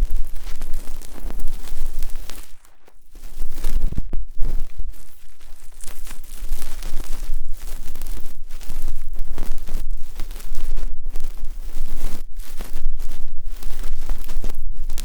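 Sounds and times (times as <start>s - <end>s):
ear-cleaning tool scratching microphone: 0.0s - 15.0s.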